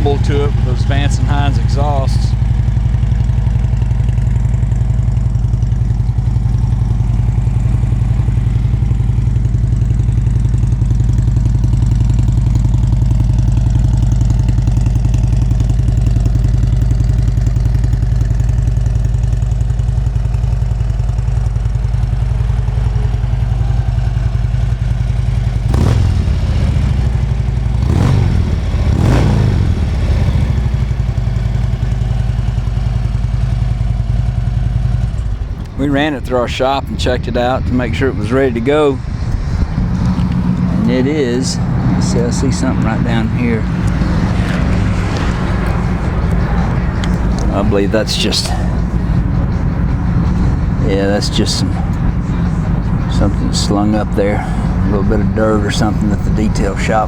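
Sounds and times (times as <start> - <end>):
motorcycle engine idling: 0.0 - 57.0
motorcycle engine revving: 0.0 - 57.0.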